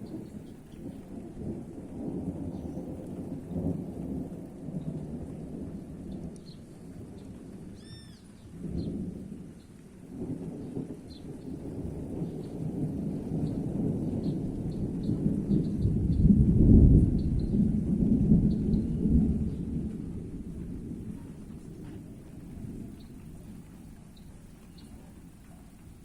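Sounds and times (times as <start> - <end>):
rain: 0.0 - 26.0
rolling thunder: 0.0 - 26.0.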